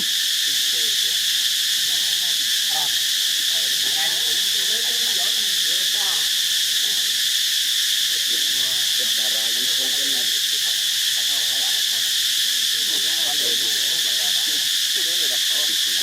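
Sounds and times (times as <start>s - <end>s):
faint wavering calls: 0.0s - 16.0s
insects droning: 0.0s - 16.0s.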